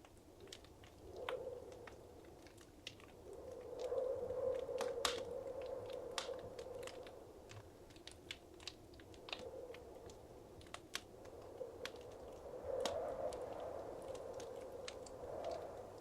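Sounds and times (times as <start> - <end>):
rush of burning fire: 0.0 - 16.0
wood fire crackling: 0.0 - 16.0.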